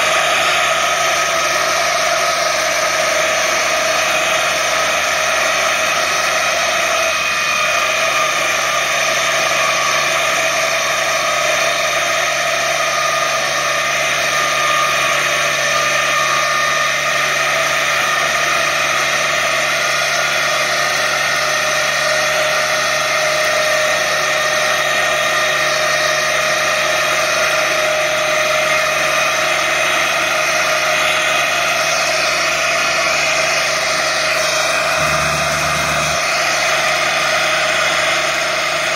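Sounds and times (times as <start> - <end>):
mower mechanical whine: 0.0 - 38.9.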